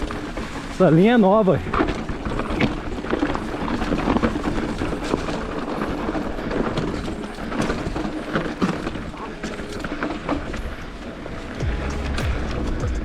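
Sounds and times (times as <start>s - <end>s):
bike rattling: 0.0s - 13.0s
tyres crunching over loose stones: 0.0s - 13.0s.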